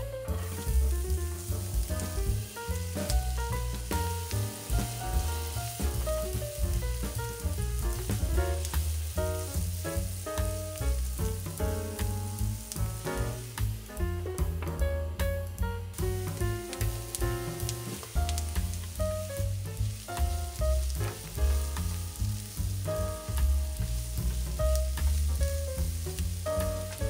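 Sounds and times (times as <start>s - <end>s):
background music with bass: 0.0s - 27.0s
onion sizzling in hot oil: 0.0s - 27.0s.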